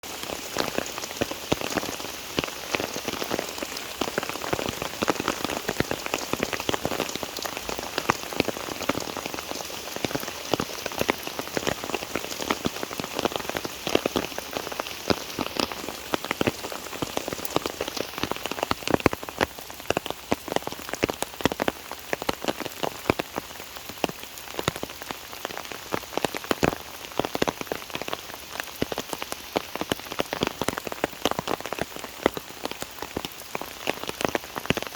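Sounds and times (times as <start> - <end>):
raindrops tapping close by: 0.0 - 34.9
steady rain: 0.0 - 34.9.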